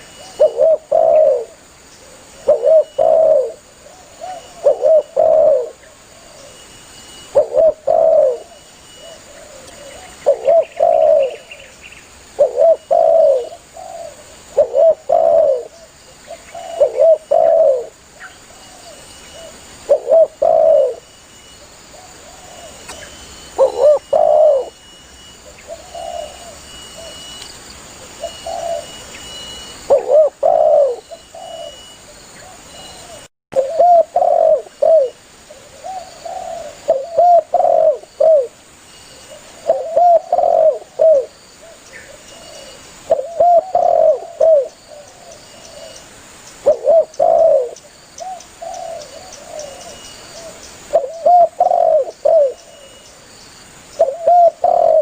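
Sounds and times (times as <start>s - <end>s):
dove cooing: 0.0s - 6.6s, 7.3s - 11.6s, 12.3s - 21.0s, 21.9s - 24.8s, 25.4s - 27.3s, 28.0s - 29.2s, 29.8s - 38.6s, 39.2s - 46.0s, 46.6s - 53.0s, 54.0s - 55.0s
faint high whine: 0.0s - 55.0s.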